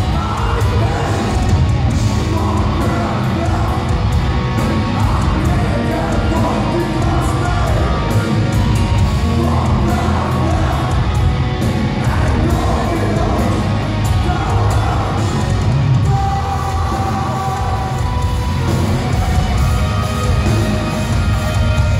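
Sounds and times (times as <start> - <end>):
distorted electric guitars: 0.0 - 21.9
drums and cymbals: 0.0 - 21.9.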